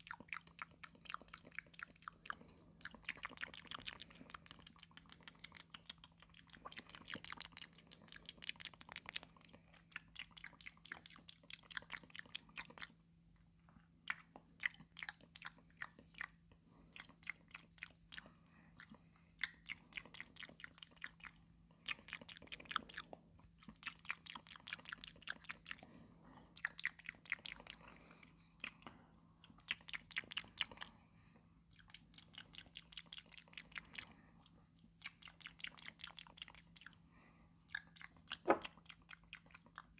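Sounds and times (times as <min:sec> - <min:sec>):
chewing crunchy cucumber: 0:00.0 - 0:13.0, 0:13.8 - 0:31.0, 0:31.7 - 0:37.0, 0:37.6 - 0:39.9.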